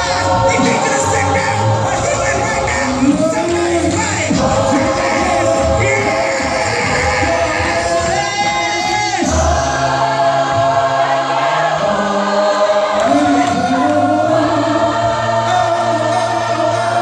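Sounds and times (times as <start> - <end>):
choir singing held notes: 0.0 - 17.0
sustained instrumental backing: 0.0 - 17.0.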